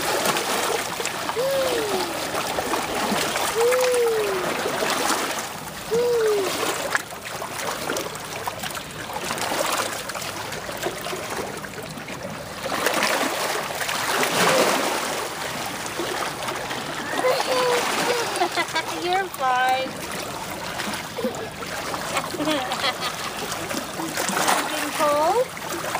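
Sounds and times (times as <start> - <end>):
water splashing over rocks: 0.0 - 25.9.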